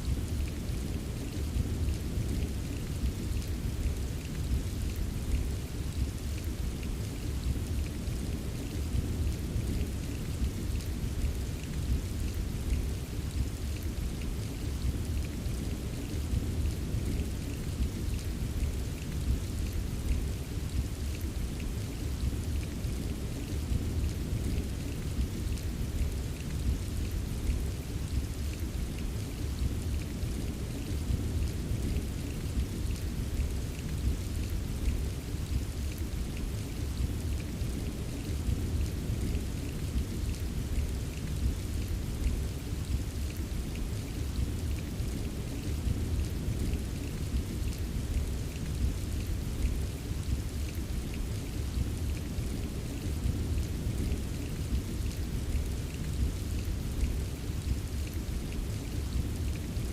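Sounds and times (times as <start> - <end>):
rain rumbling wash: 0.0 - 59.9
raindrop ticks: 0.0 - 59.9.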